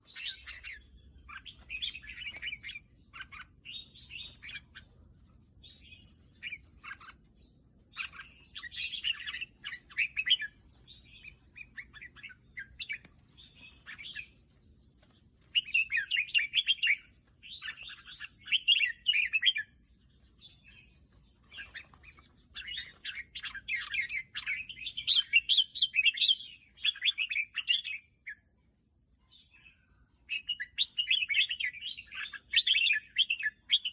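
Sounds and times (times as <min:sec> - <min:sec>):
bird singing chirping phrases: 0:00.0 - 0:33.9.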